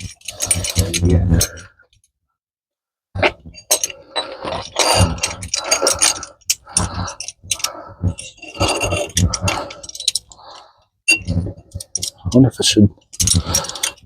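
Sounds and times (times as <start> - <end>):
loose metal clinking and rattling: 0.0 - 1.7, 3.2 - 14.0.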